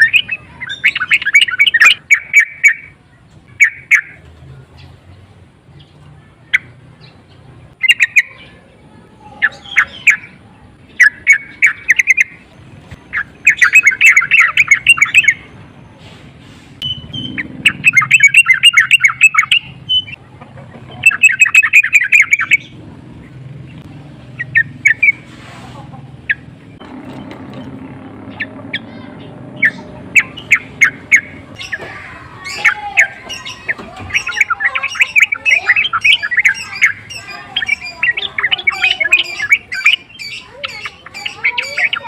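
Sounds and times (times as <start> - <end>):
bird singing chattering notes: 0.0 - 16.0, 16.8 - 25.3, 25.9 - 42.0.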